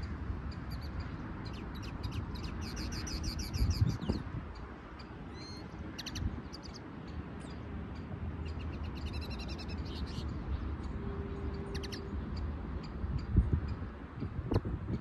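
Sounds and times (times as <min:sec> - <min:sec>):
songbirds chirping: 0:00.0 - 0:14.7
low wind rumble: 0:00.0 - 0:15.0.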